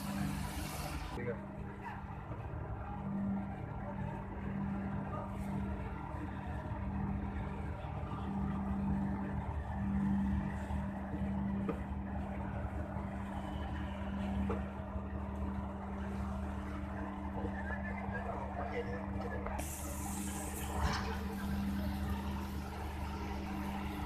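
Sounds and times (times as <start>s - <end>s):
ship engine droning: 0.0s - 24.0s.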